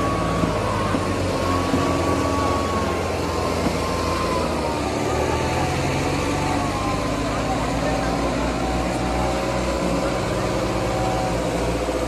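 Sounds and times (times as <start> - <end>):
tractor diesel engines straining: 0.0 - 12.0.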